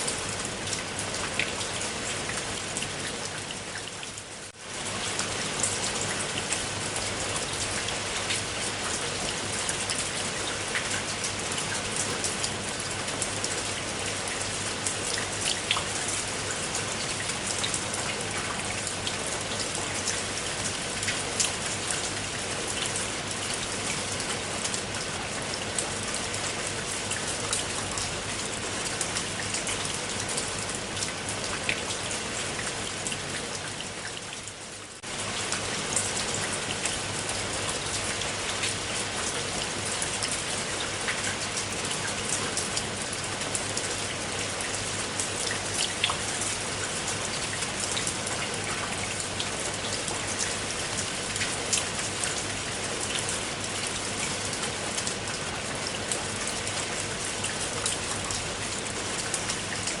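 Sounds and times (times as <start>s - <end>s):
rain drops striking surface: 0.0s - 60.0s.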